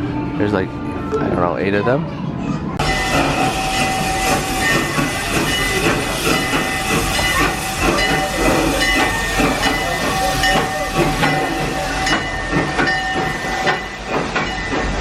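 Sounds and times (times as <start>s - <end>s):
steam hissing: 2.8s - 15.0s.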